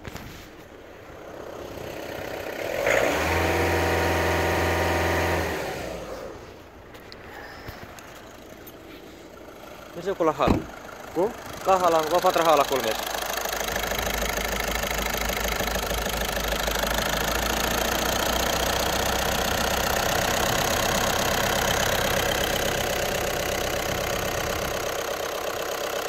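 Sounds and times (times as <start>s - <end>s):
diesel engine idling: 0.5s - 26.0s.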